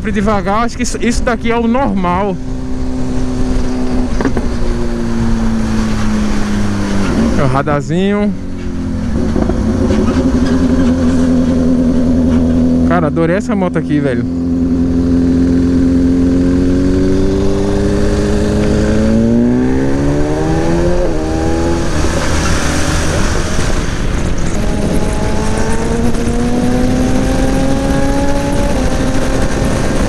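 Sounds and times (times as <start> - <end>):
wind rumble on microphone: 0.0 - 12.9, 14.4 - 30.0
motorcycle engine accelerating: 0.0 - 30.0.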